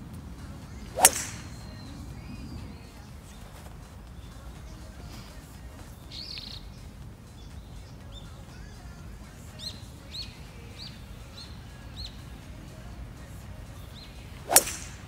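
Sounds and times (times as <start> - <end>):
steady low rumble: 0.0 - 15.0
bird chirping: 0.6 - 15.0.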